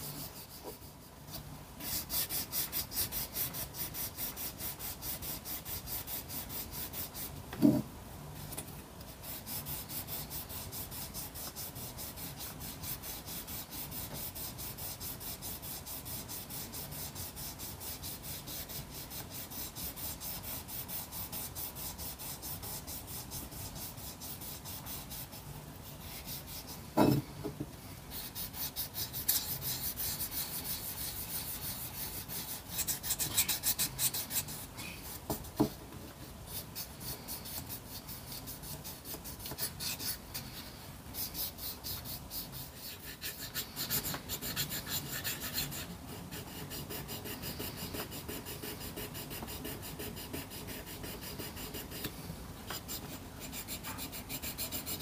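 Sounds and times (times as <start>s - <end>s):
sandpaper rubbing on metal: 1.8s - 7.4s, 9.2s - 26.9s, 28.1s - 35.3s, 36.5s - 52.1s, 52.8s - 55.0s.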